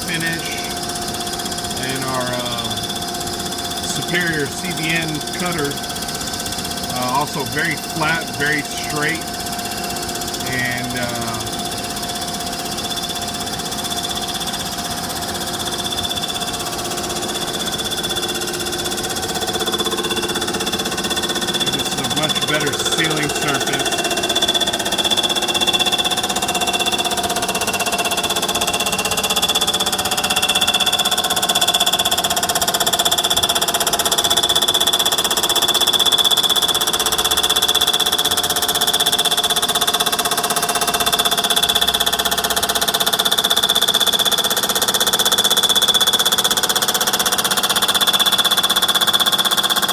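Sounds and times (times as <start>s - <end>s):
cutter chatter on metal: 0.0s - 49.9s
milling machine high-pitched whine: 0.0s - 49.9s.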